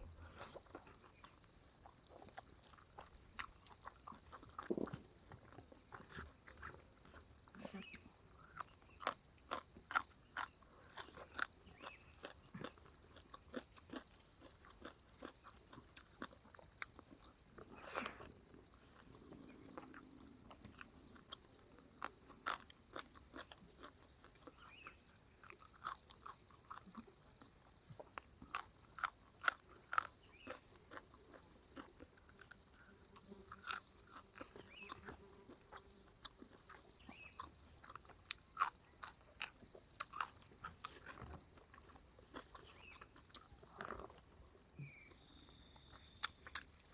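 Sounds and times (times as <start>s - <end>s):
chewing and crunching food: 0.0s - 46.9s.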